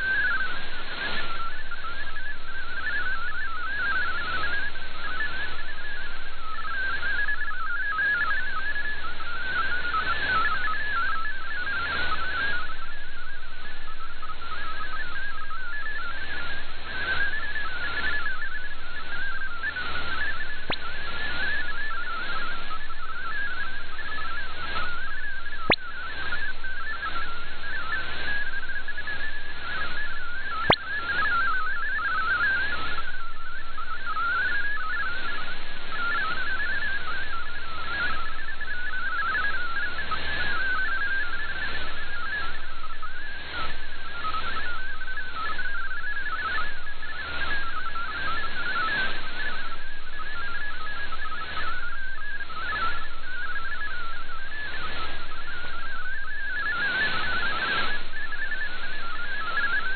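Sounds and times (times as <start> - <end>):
radio static hiss: 0.0 - 59.9
warbling digital data tones: 0.0 - 59.9.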